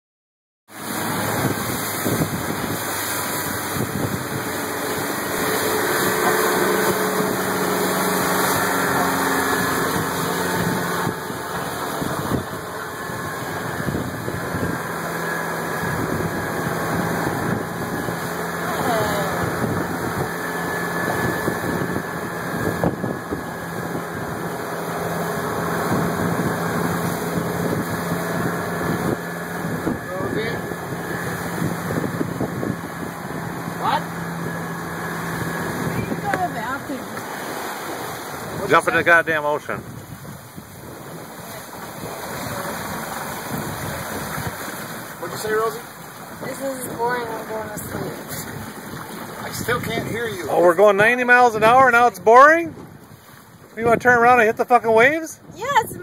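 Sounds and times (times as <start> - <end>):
motorboat engine running: 0.7 - 56.0
water rushing: 0.7 - 56.0.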